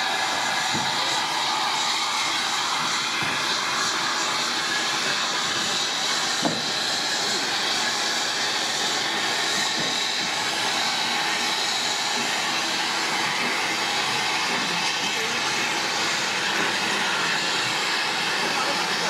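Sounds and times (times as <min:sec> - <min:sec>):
steam hissing: 0:00.0 - 0:19.0.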